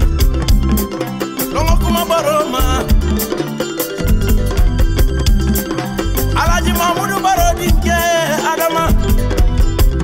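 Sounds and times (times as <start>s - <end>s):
instrumental pop music with strong bass: 0.0s - 10.0s.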